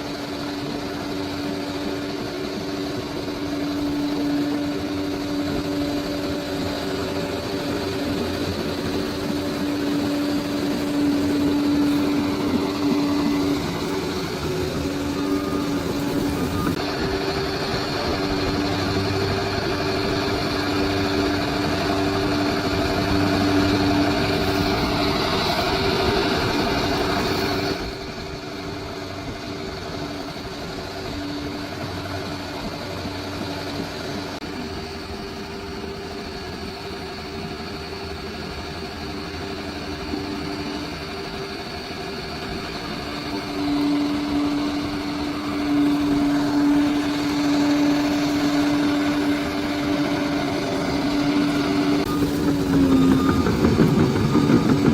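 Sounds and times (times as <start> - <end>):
bulldozer diesel engine: 0.0 - 54.9.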